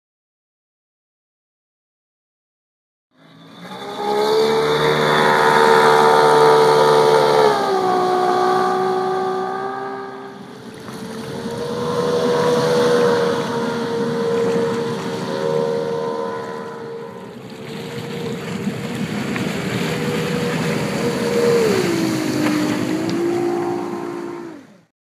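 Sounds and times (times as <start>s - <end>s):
outboard motor running: 3.2s - 24.9s.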